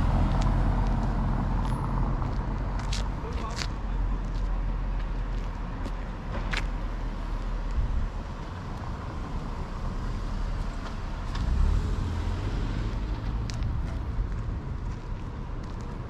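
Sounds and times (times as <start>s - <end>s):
car traffic rumble: 0.0s - 16.0s.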